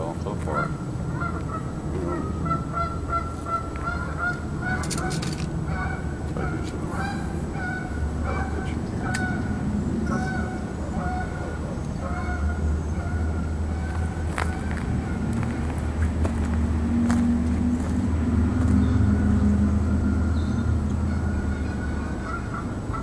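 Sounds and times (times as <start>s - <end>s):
geese honking: 0.3s - 15.8s, 18.9s - 23.0s.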